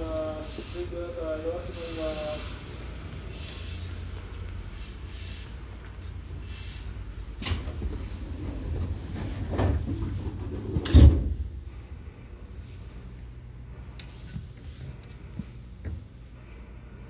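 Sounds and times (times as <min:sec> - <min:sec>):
train car rumble: 0:00.0 - 0:17.0.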